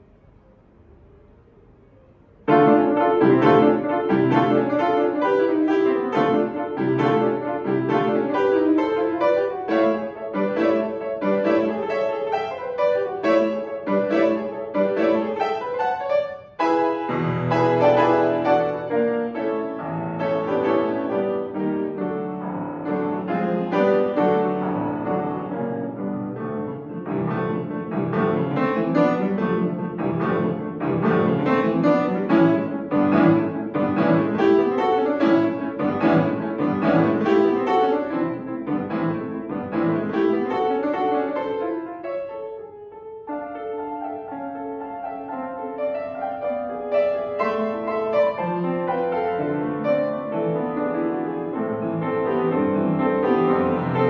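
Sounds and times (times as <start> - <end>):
grand piano playing fast runs: 0.0 - 54.0.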